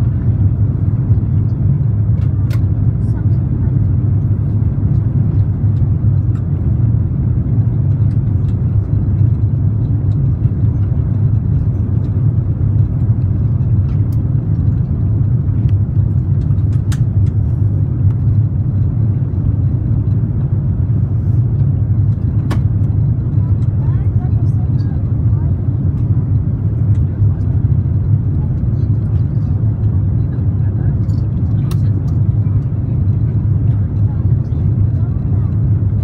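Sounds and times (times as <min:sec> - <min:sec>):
airplane cabin drone: 0:00.0 - 0:36.0.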